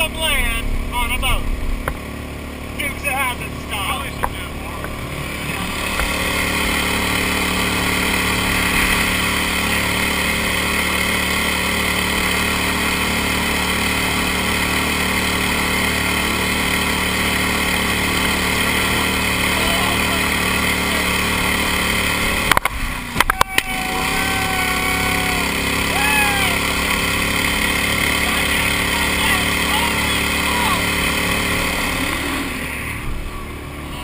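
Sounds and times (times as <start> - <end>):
outboard motor droning: 0.0 - 34.0.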